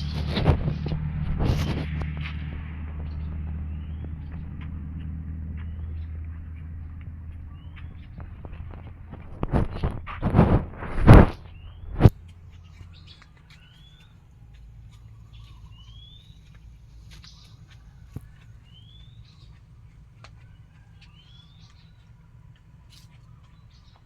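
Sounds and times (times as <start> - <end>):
low background rumble: 0.0 - 24.0.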